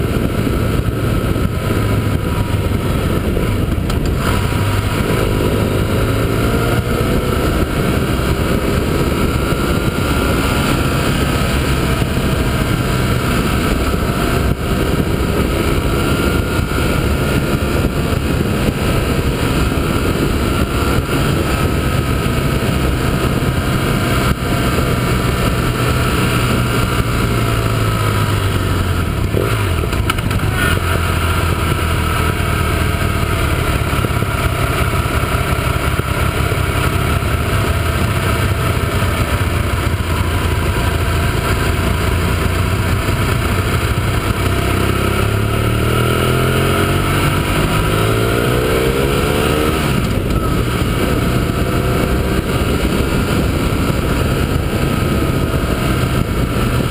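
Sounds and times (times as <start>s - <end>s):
motorcycle engine revving: 0.0s - 56.9s
wind rush: 0.0s - 56.9s.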